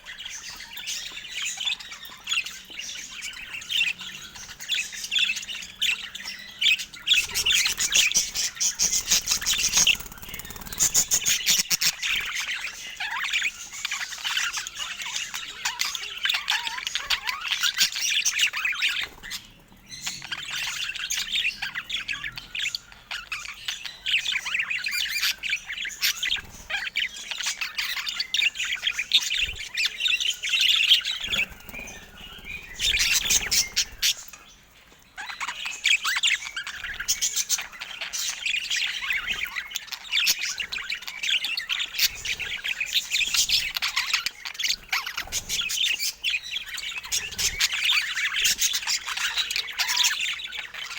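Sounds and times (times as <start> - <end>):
budgerigars chattering: 0.0 - 50.9.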